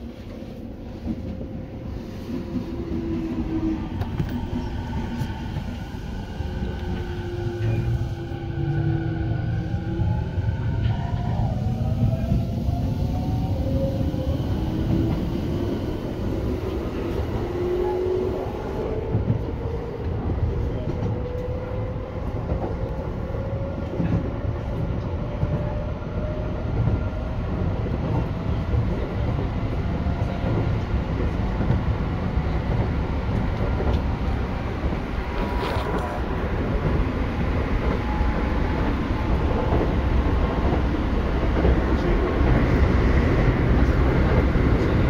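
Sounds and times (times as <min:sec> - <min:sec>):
wheels rumbling on rail: 0:00.0 - 0:45.0.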